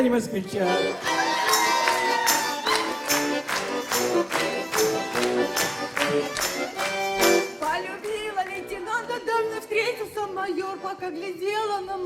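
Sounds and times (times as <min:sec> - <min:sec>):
button accordion playing chords: 0:00.2 - 0:12.0.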